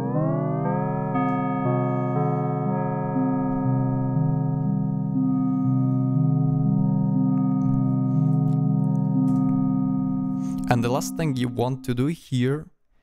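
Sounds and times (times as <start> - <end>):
synthesiser low notes ringing: 0.0 - 12.5.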